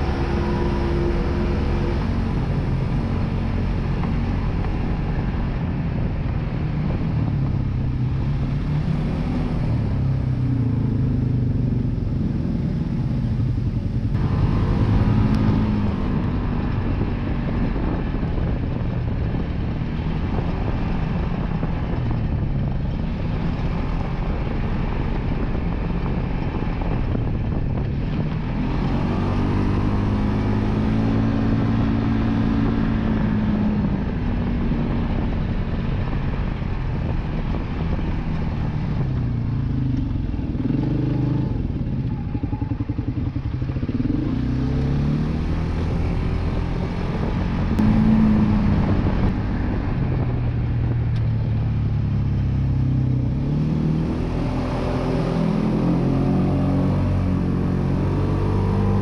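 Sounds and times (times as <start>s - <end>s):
rush of tyres and wind: 0.0s - 59.0s.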